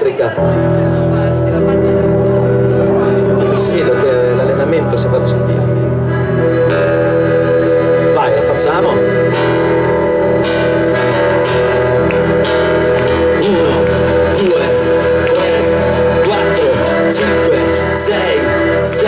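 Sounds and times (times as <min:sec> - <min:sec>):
accordion chords: 0:00.3 - 0:19.0
guitar and plucked strings: 0:00.3 - 0:19.0.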